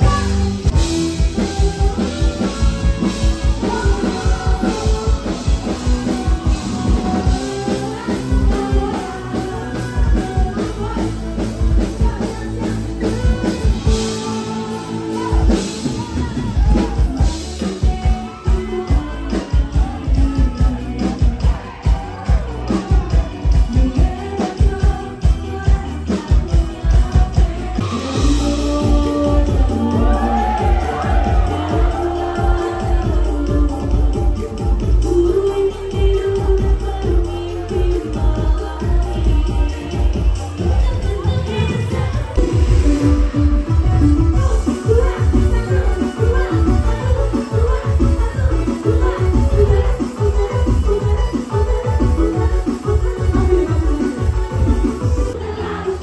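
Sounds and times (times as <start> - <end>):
bass guitar: 0.0 - 56.0
drum kit: 0.0 - 56.0
person singing: 0.0 - 56.0.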